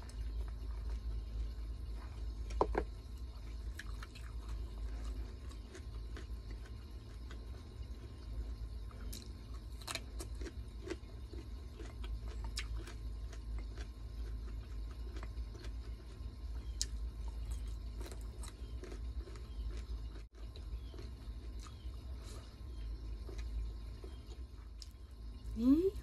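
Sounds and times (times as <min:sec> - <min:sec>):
person chewing and crunching: 0:00.0 - 0:25.4
steady low hum: 0:00.0 - 0:26.0.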